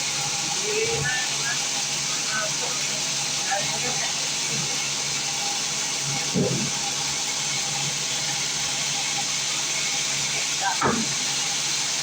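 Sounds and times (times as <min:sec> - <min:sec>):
sawmill machinery running: 0:00.0 - 0:12.0.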